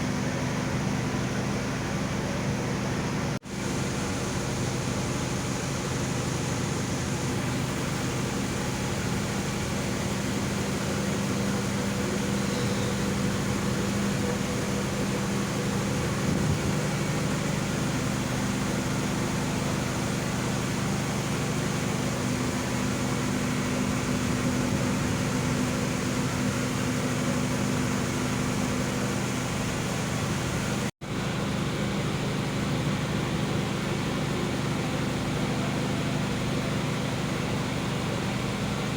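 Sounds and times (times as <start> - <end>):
ship engines droning: 0.0 - 38.9.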